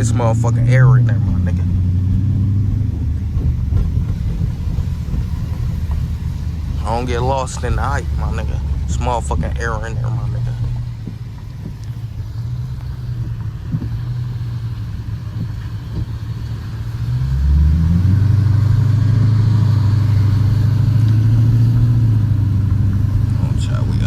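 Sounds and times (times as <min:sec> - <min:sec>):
car engine droning: 0:00.0 - 0:24.0.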